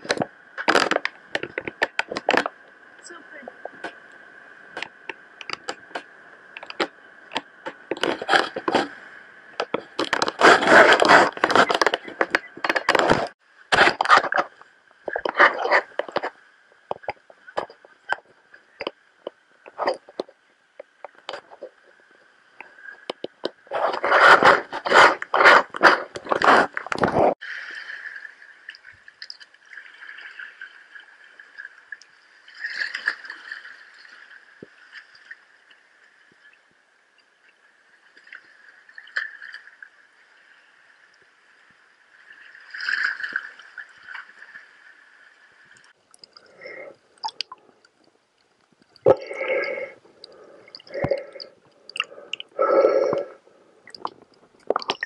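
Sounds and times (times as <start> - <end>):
water sloshing and gurgling: 0.0 - 55.0.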